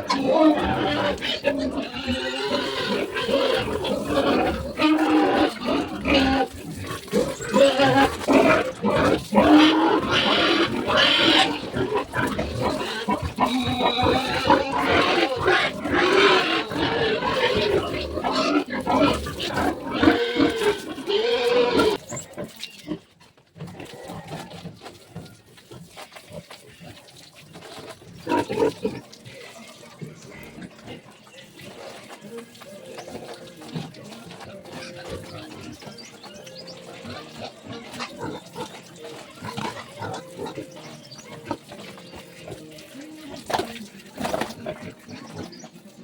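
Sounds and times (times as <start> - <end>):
pigs squealing: 0.0 - 46.0.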